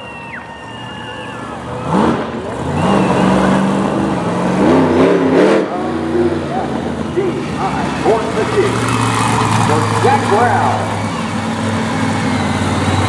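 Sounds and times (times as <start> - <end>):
monster truck engine revving: 0.1 - 13.0.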